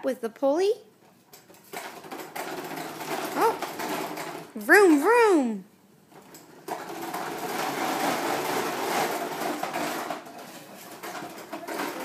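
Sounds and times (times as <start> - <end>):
toy lawn mower rattling: 1.4 - 5.3, 6.2 - 12.0.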